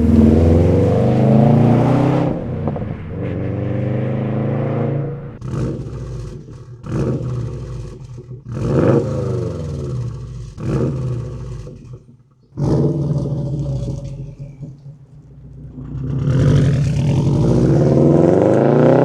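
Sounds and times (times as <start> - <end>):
car engine revving: 0.0 - 11.8, 12.6 - 19.0.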